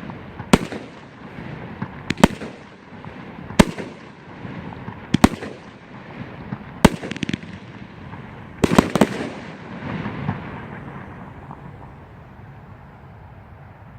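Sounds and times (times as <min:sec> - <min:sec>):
small firework pops: 0:00.0 - 0:05.8, 0:06.4 - 0:12.0
fireworks bangs: 0:00.0 - 0:12.7.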